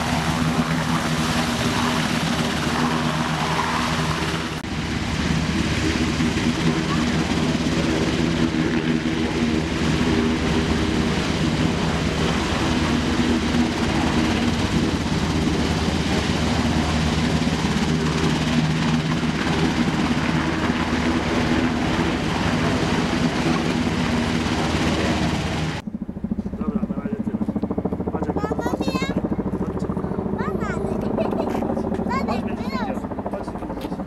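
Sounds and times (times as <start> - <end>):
turbine engine drone: 0.0 - 28.4
helicopter rotor beating: 0.0 - 34.0.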